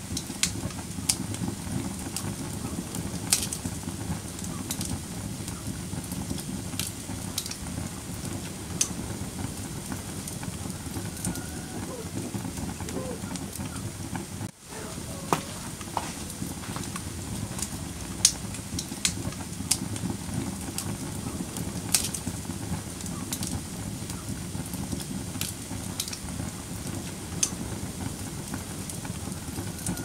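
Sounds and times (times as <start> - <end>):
fire crackling in fireplace: 0.0 - 30.0.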